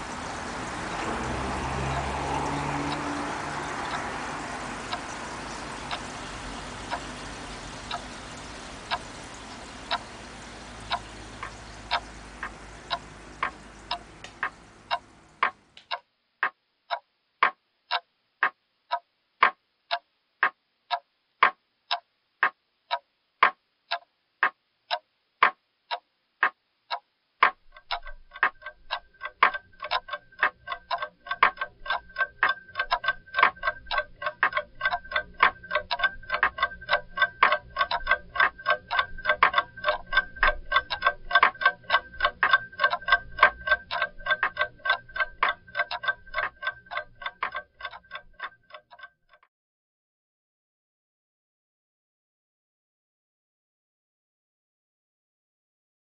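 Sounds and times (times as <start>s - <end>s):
clock ticking: 0.0s - 49.4s
faster ticking with ringing tone: 0.0s - 49.4s.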